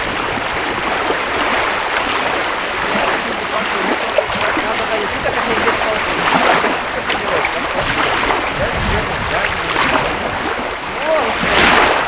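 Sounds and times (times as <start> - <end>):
small waves washing onto beach: 0.0 - 12.0.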